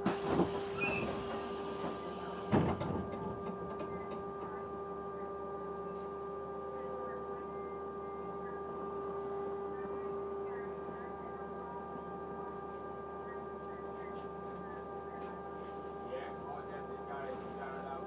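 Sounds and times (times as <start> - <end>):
bus steady hum: 0.0 - 18.0.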